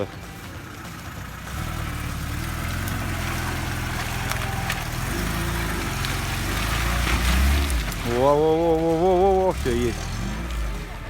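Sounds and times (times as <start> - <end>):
car engine under load: 0.0 - 11.0.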